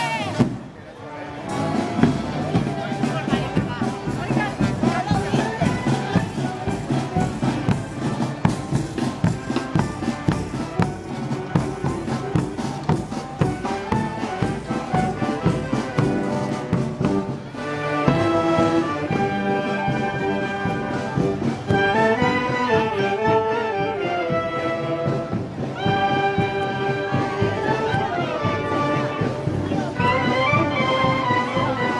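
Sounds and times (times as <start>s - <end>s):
brass band playing: 0.0s - 31.9s
steady drumbeats: 0.0s - 31.9s.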